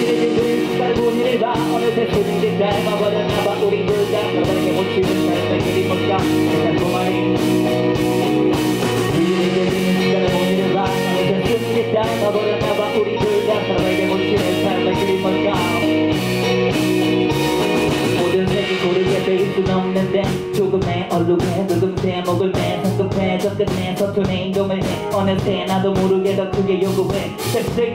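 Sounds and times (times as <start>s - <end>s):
person rapping: 0.0s - 7.8s, 8.9s - 16.1s, 18.1s - 27.9s
live rock band playing: 0.0s - 27.9s.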